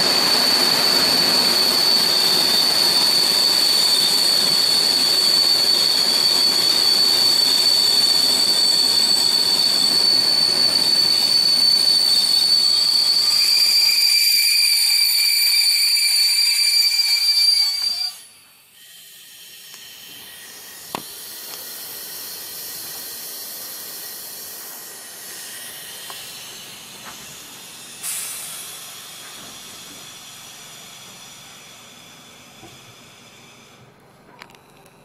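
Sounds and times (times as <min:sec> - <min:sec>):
moving train hiss: 0:00.0 - 0:34.3.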